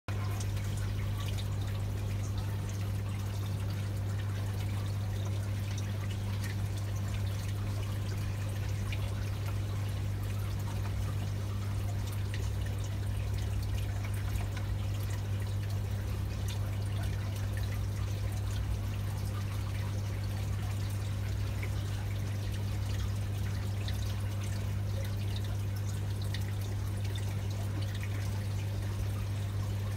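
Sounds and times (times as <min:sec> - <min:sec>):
aquarium equipment humming: 0:00.1 - 0:29.9
water trickling and splashing: 0:00.1 - 0:29.9.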